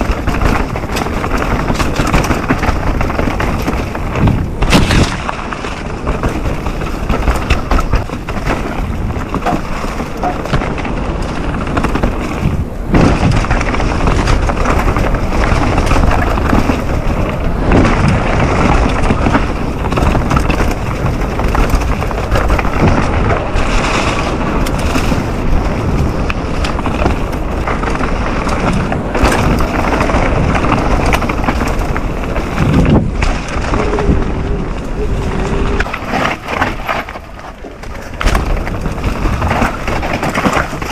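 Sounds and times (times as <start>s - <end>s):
bike knocking and rattling: 0.0s - 40.9s
bike tyres on dirt and rocks: 0.0s - 40.9s
wind buffeting microphone: 0.0s - 40.9s.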